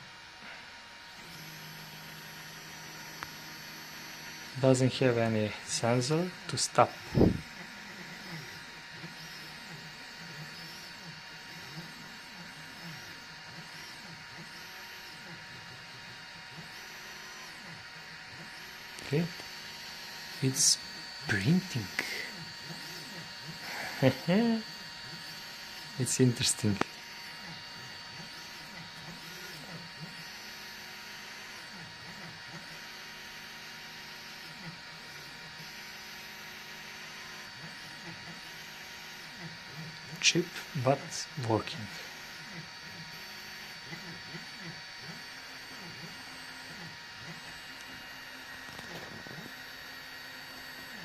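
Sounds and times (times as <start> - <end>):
steady hum: 0.0 - 51.0
stepper motors whirring: 0.2 - 51.0.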